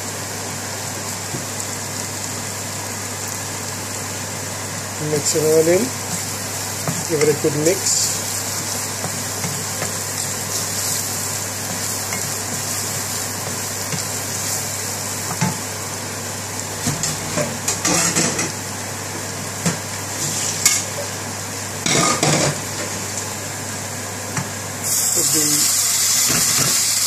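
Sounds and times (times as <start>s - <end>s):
potato and onion frying in oil: 0.0s - 27.0s.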